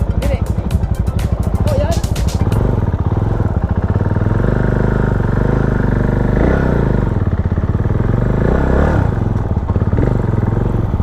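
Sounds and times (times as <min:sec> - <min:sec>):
single-cylinder engine thumping: 0:00.0 - 0:11.0.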